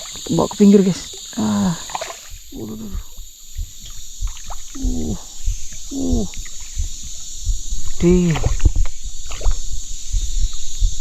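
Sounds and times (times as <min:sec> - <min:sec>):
short wordless calls: 0:00.0 - 0:10.4
water splashing and sloshing: 0:00.0 - 0:10.7.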